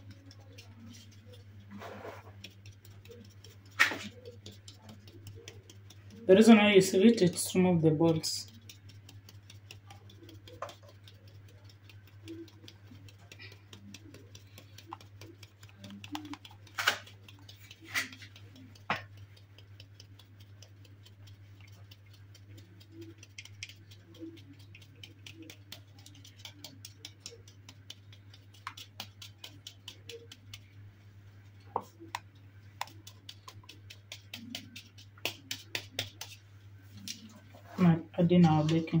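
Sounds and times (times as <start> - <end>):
sieve ticking while sifting: 0.0 - 30.8, 31.8 - 36.4.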